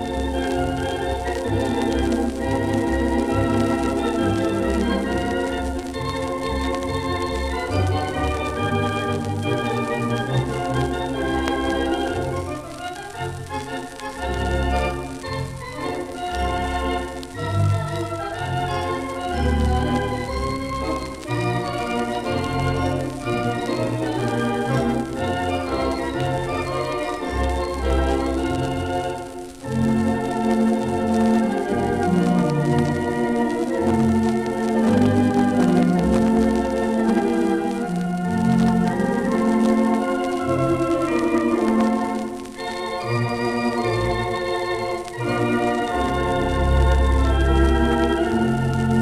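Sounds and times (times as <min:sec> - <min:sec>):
record surface hiss: 0:00.0 - 0:49.0
theatre pipe organ playing chords: 0:00.0 - 0:49.0.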